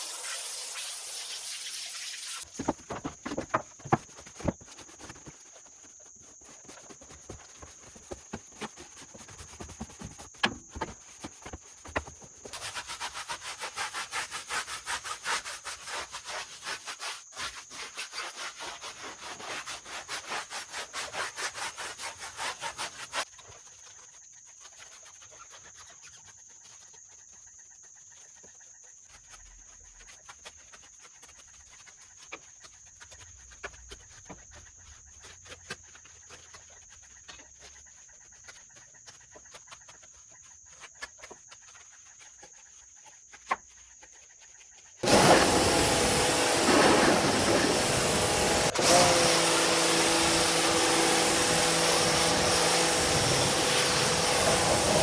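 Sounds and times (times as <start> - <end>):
brush scrubbing a car wheel: 0.0 - 55.0.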